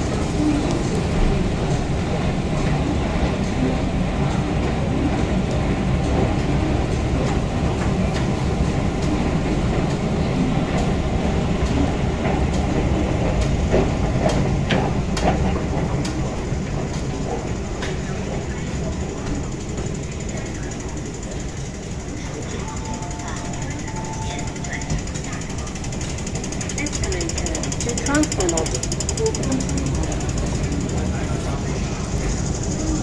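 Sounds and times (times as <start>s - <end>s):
low rumble of metro station: 0.0s - 33.0s.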